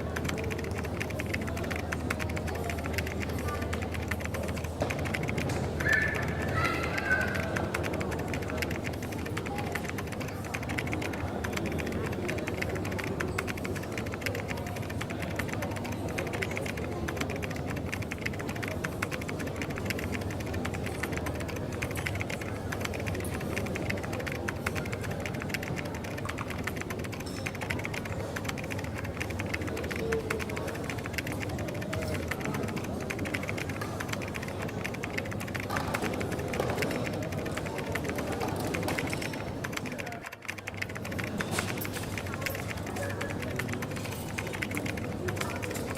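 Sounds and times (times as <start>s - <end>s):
hubbub of voices: 0.0s - 45.9s
rapid clicks and clatter: 0.0s - 45.9s.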